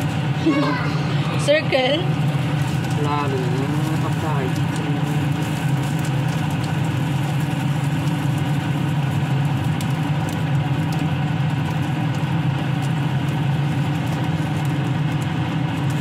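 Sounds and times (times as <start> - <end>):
frying in a pan: 0.0 - 16.0
kitchen fan humming: 0.0 - 16.0.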